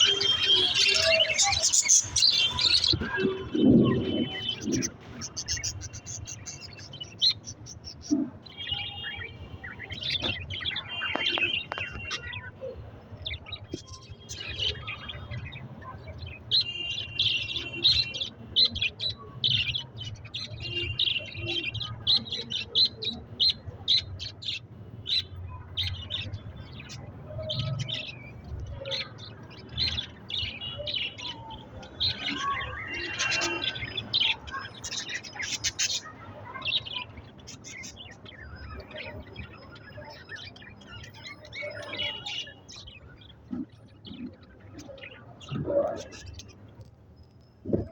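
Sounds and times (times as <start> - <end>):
budgerigars chirping and warbling: 0.0 - 47.9.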